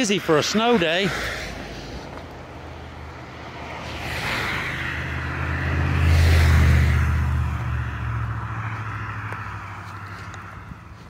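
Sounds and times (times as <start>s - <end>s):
car passing by: 0.3s - 11.0s.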